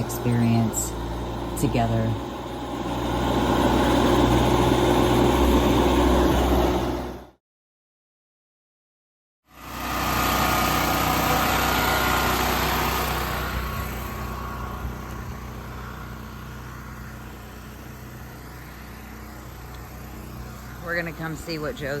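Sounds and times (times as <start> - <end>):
vehicle engine running: 0.0 - 7.3, 9.6 - 22.0.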